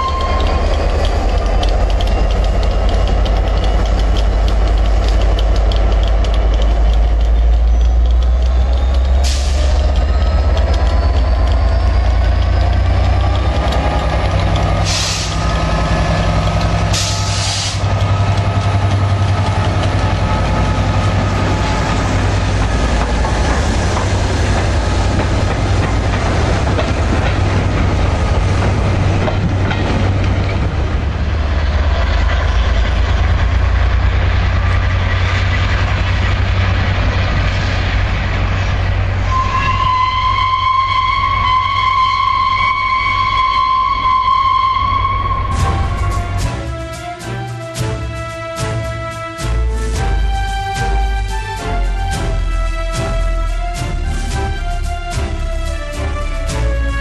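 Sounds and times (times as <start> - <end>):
diesel locomotive engine: 0.0 - 57.0
train wheels clattering: 0.0 - 57.0.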